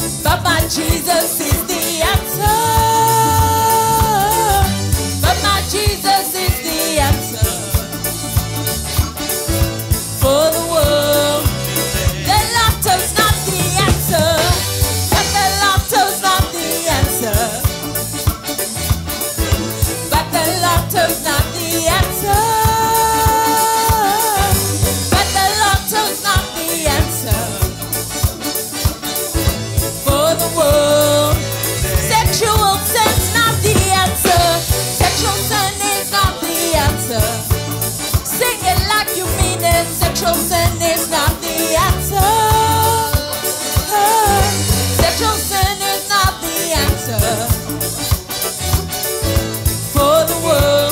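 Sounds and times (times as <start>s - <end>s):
gospel song with band: 0.0s - 50.9s.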